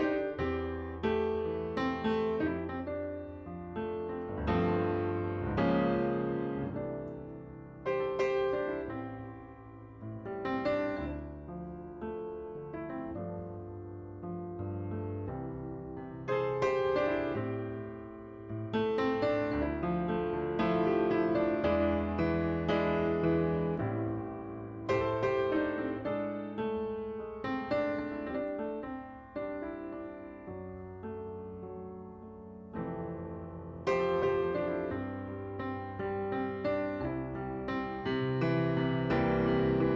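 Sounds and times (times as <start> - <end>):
gentle piano music: 0.0 - 39.9.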